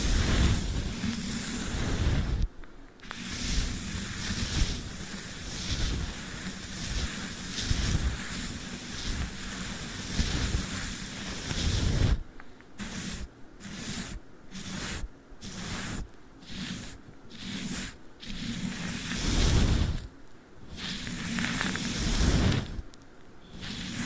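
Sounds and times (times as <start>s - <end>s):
brush and tape scratching: 0.0s - 24.0s.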